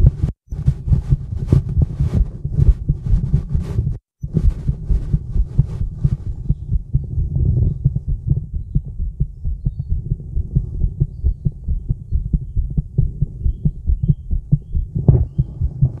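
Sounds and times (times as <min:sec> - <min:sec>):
heartbeat thuds: 0:00.0 - 0:16.0.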